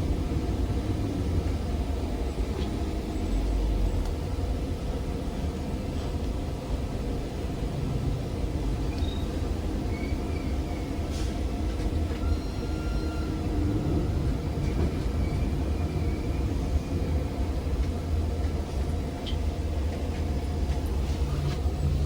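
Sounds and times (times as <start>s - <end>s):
trolleybus running gear rumble: 0.0s - 22.0s.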